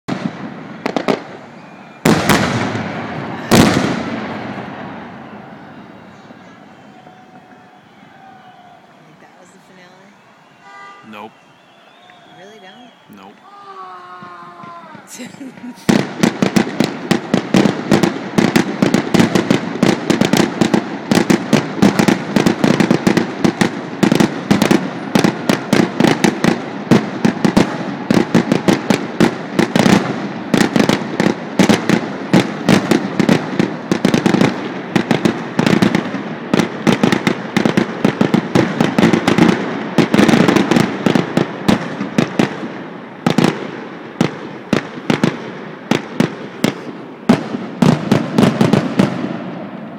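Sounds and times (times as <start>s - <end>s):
fireworks bursting: 0.1s - 49.9s.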